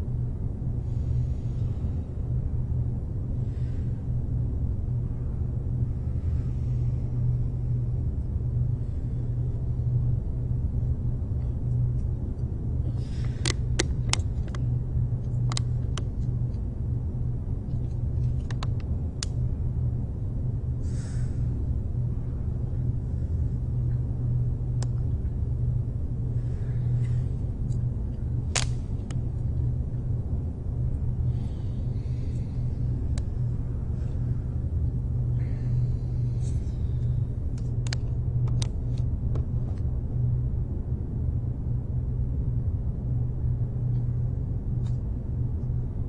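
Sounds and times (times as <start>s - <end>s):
low rumbling hum: 0.0s - 46.0s.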